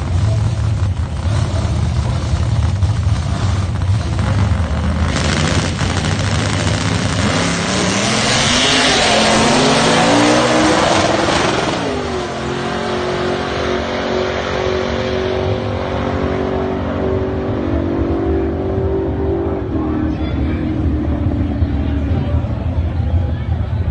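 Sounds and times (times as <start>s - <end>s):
racing car engines accelerating: 0.0s - 23.9s.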